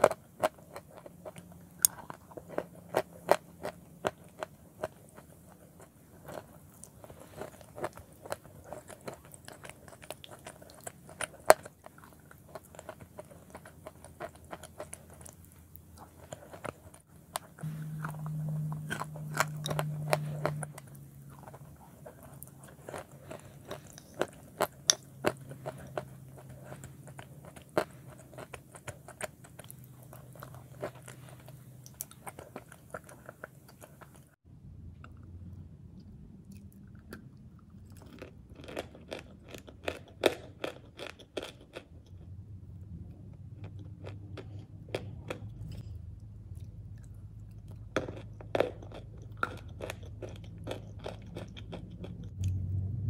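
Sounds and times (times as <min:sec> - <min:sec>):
chewing and crunching: 0:00.0 - 0:34.4, 0:36.0 - 0:52.8
low steady hum: 0:00.0 - 0:39.1, 0:41.9 - 0:53.0.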